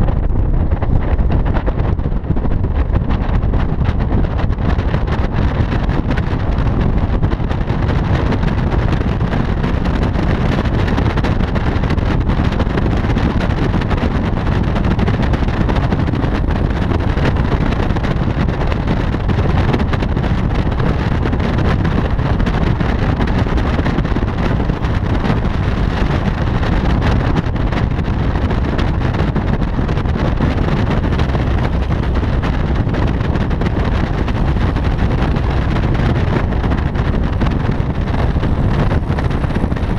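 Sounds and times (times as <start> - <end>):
vehicle noise: 0.0 - 39.9
wind rushing over microphone: 0.0 - 39.9.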